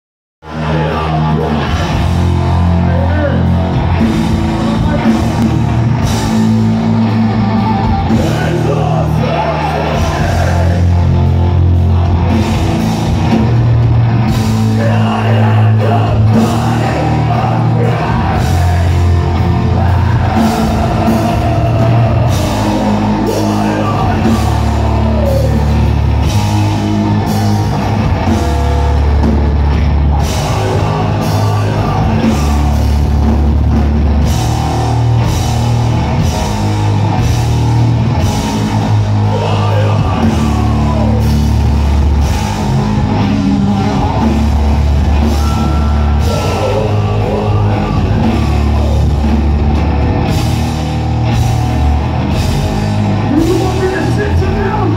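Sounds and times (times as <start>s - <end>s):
shouted vocals: 0.4s - 13.5s, 14.2s - 33.4s, 34.1s - 54.9s
distorted electric guitar: 0.4s - 54.9s
low bass riff: 0.9s - 54.9s
pounding drums: 7.8s - 54.9s.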